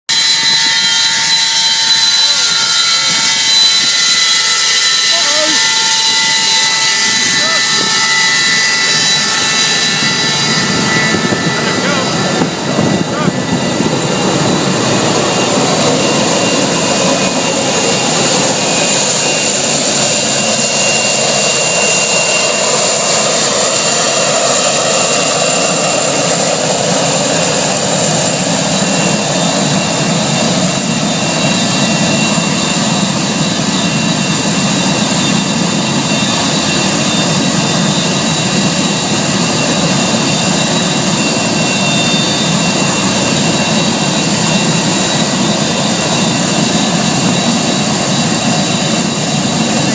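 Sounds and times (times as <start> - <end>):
high jet whine: 0.1 - 49.9
jet engines at taxi power: 0.1 - 49.9.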